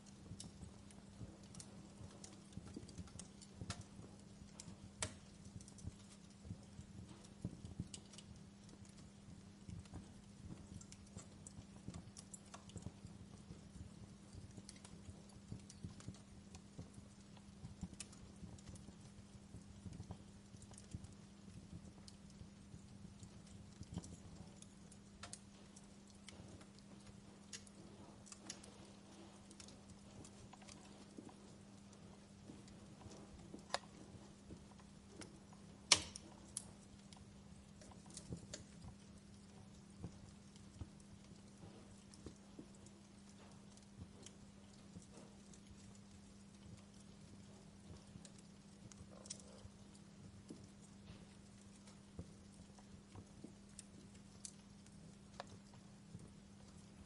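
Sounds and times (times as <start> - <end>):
faint low hum: 0.0 - 57.0
fire pops: 0.0 - 57.0
wood fire crackling: 0.0 - 57.0.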